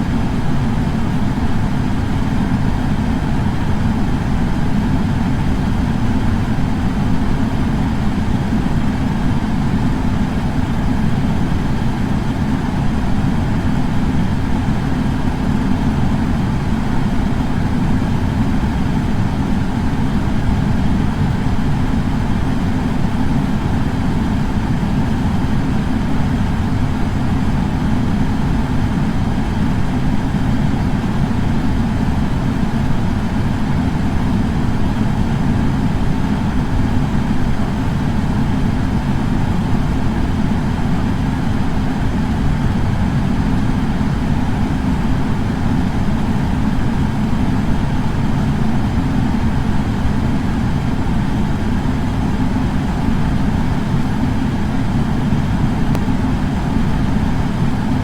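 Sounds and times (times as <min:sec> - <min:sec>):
air purifier fan running: 0:00.0 - 0:58.0.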